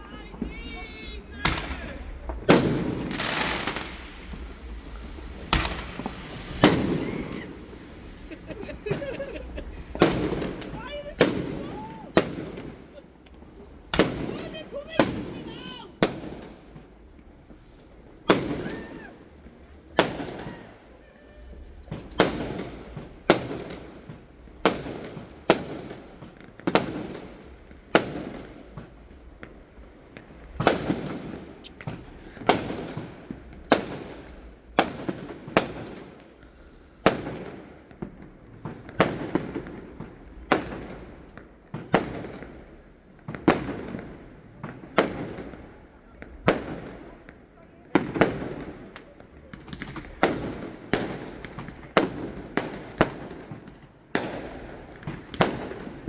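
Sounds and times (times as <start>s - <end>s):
fireworks bangs with rumbling echo: 0.0s - 56.0s.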